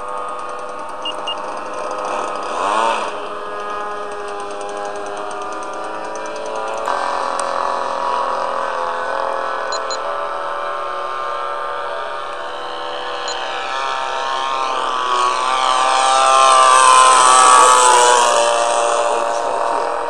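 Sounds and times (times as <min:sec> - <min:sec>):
model plane engine running: 0:00.0 - 0:20.0.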